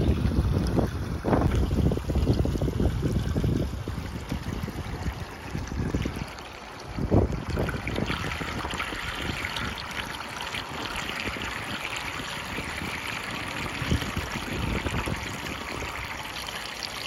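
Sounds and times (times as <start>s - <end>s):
wind rumble on microphone: 0.0s - 16.6s
water trickling in gutter: 0.0s - 17.0s.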